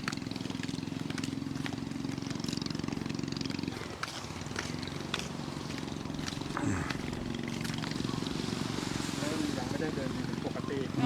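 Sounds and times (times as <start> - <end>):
small engine pulsing: 0.0 - 11.0.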